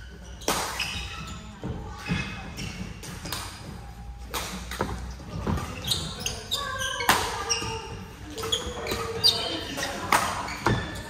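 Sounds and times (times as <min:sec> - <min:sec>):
shoes squeaking on court floor: 0:00.0 - 0:11.0.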